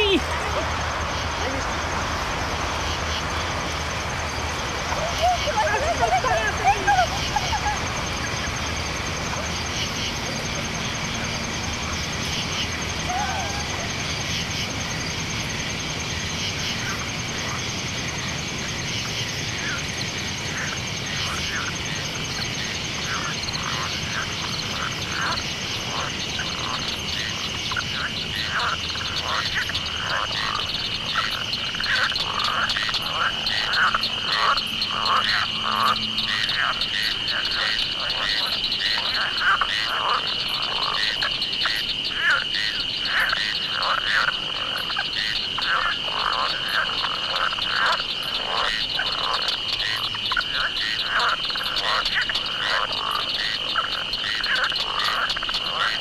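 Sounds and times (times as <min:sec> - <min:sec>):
chorus of animal calls: 0:00.0 - 0:56.0.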